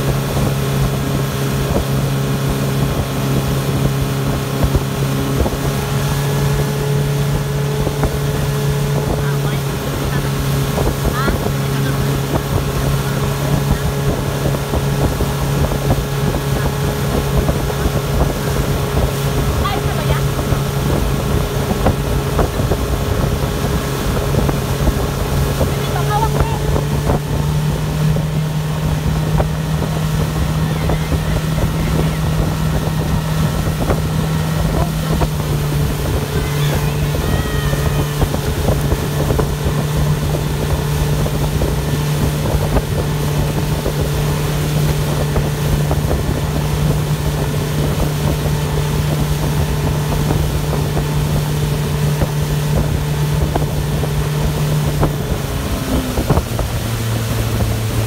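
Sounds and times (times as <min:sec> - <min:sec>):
boat wake rushing: 0:00.0 - 0:58.0
outboard motor running: 0:00.0 - 0:58.0
wind on microphone: 0:00.0 - 0:58.0.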